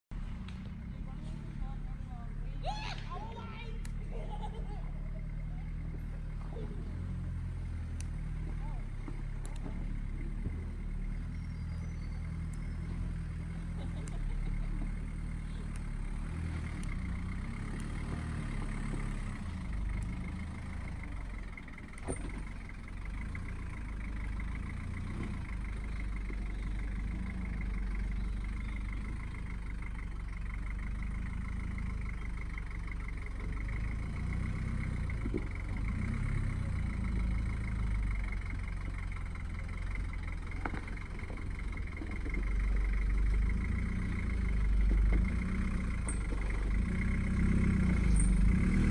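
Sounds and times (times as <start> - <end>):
diesel engine rumbling at low revs: 0.0 - 48.9.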